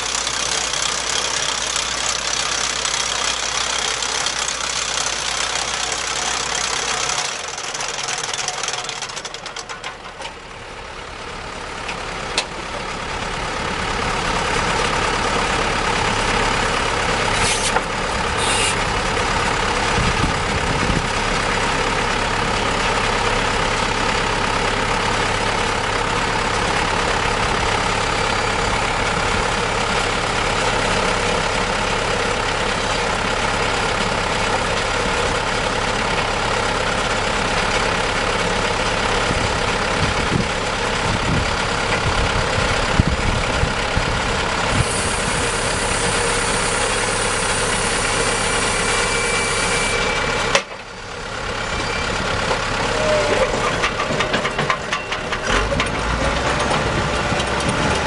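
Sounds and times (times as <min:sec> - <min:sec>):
trencher engine running: 0:00.0 - 0:58.0.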